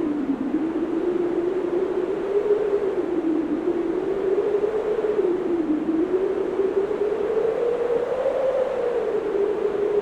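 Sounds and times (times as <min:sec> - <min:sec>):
blizzard wind howling: 0:00.0 - 0:10.0.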